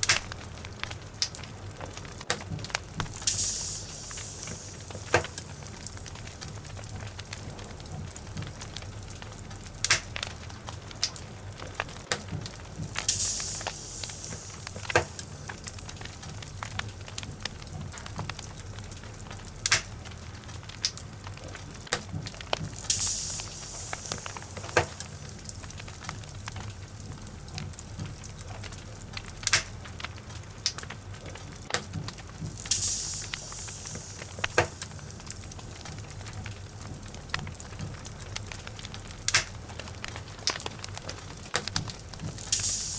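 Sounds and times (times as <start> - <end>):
soft hiss: 0.0 - 31.3, 31.9 - 42.9
fire crackling and popping: 0.0 - 42.9
flames rumbling: 0.0 - 42.9.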